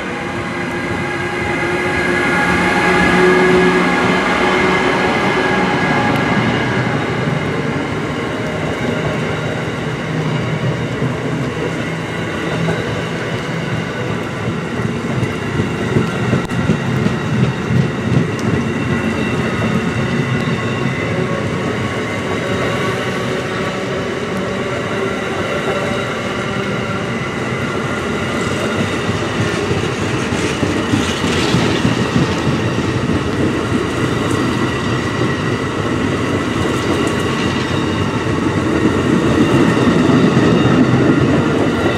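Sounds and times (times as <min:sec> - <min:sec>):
train wheels rushing on rail: 0:00.0 - 0:41.9.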